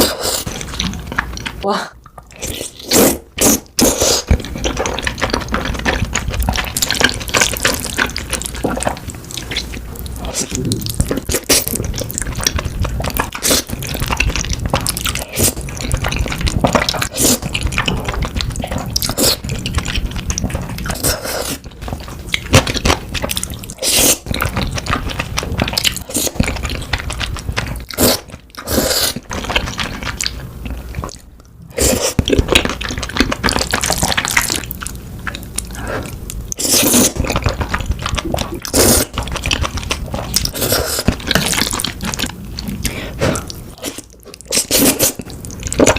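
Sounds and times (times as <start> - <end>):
person biting and chewing: 2.2 - 45.9.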